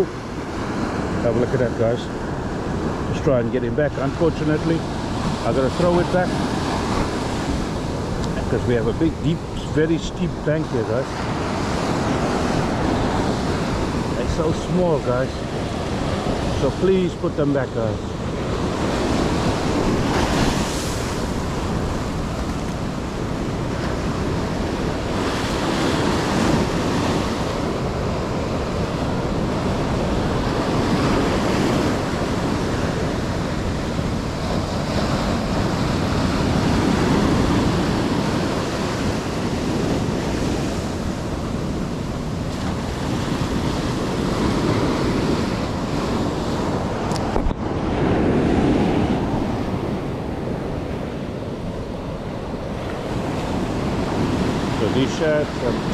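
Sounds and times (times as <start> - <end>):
wind buffeting microphone: 0.0 - 17.1, 17.7 - 55.9
ocean surf breaking: 0.0 - 55.9.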